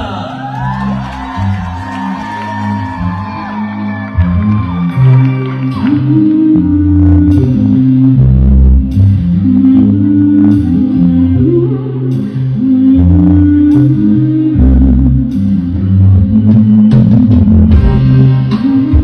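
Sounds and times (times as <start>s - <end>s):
bass notes: 0.0s - 19.0s
guitar: 0.0s - 19.0s.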